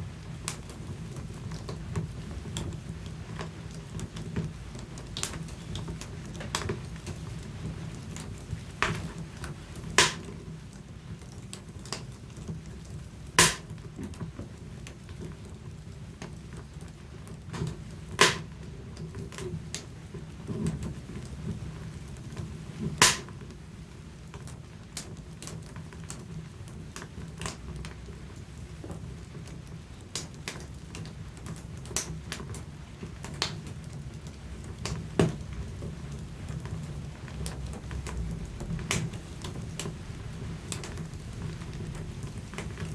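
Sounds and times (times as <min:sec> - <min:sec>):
low rumble of flames: 0:00.0 - 0:42.9
wood fire crackling: 0:00.0 - 0:42.9
sharp pops from burning logs: 0:00.3 - 0:23.6, 0:24.2 - 0:42.9.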